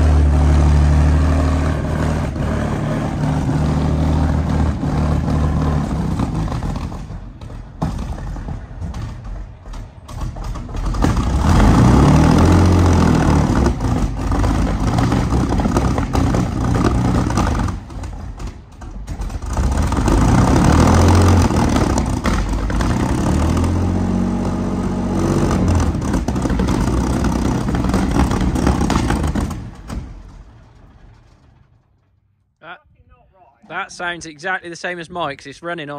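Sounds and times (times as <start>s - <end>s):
armoured vehicle engine revving: 0.0s - 31.3s.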